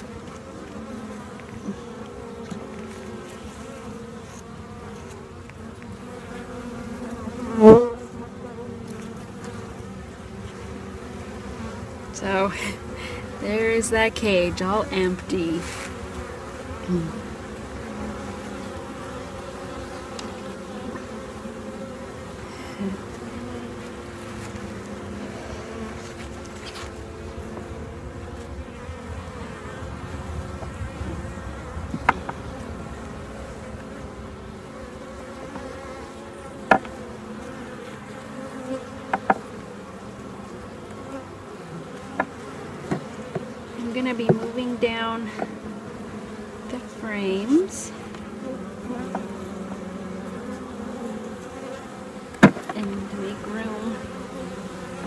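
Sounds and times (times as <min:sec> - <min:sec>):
honey bees buzzing: 0:00.0 - 0:55.0.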